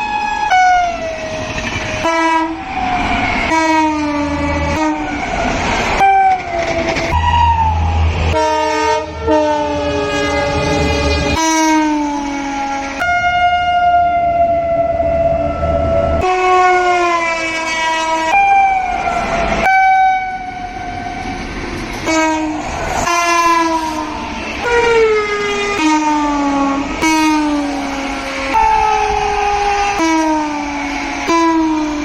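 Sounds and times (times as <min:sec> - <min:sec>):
locomotive horn blasts: 0:02.0 - 0:02.6, 0:03.5 - 0:05.2, 0:06.0 - 0:06.4, 0:07.1 - 0:21.2, 0:22.0 - 0:32.0.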